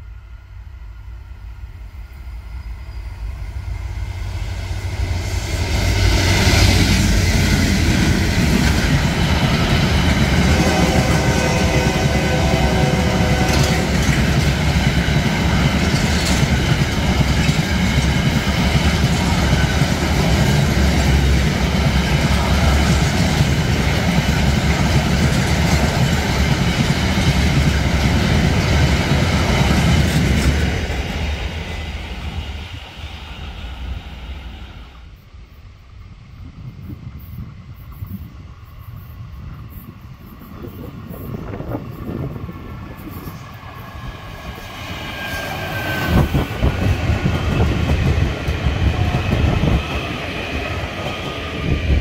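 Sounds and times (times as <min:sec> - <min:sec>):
diesel locomotive passing: 0:00.0 - 0:52.0
train wagons rumbling on rails: 0:02.8 - 0:34.4, 0:36.4 - 0:52.0.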